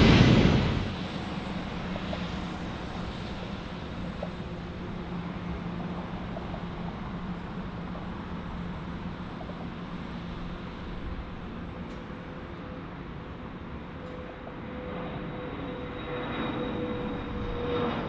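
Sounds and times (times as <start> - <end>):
jet engines roaring at takeoff: 0.0 - 18.0.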